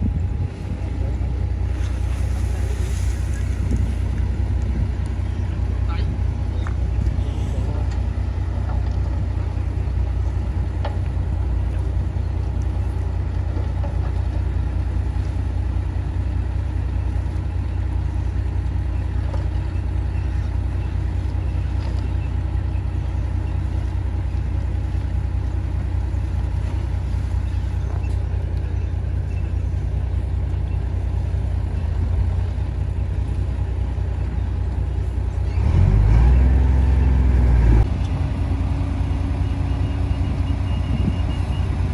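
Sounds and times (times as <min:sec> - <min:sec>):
heavy diesel engine rumbling: 0:00.0 - 0:41.9.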